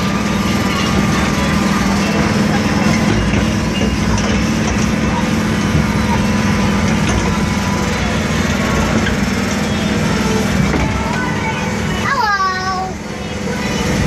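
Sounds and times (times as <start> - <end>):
ride motor droning: 0.0 - 14.0.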